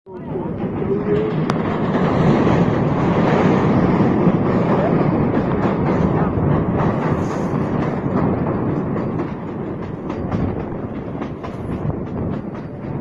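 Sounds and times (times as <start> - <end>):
train wheels rumbling on track: 0.1 - 13.0
wheels clicking on rails: 0.1 - 13.0.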